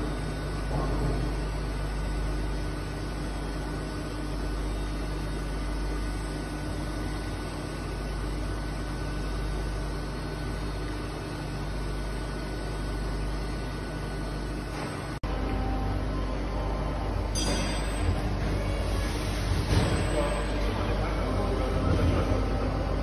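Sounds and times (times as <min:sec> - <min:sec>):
machining center running: 0:00.0 - 0:23.0.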